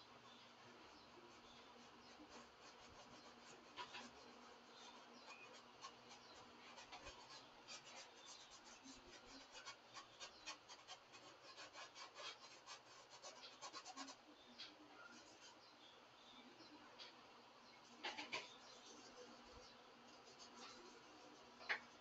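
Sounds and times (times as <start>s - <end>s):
paintbrush strokes on canvas: 0.0s - 15.7s, 17.9s - 22.0s.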